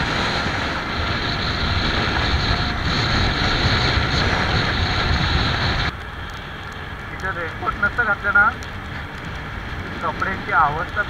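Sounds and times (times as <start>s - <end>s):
road and engine noise: 0.0s - 11.0s
wind buffeting microphone: 0.0s - 11.0s.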